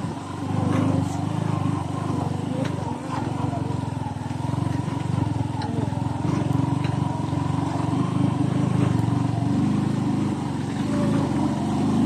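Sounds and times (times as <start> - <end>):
motor scooter engine running: 0.0 - 12.0.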